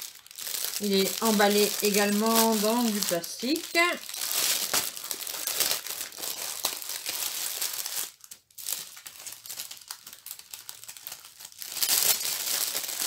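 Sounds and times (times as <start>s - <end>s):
plastic wrapping crinkling and tearing: 0.0s - 13.0s.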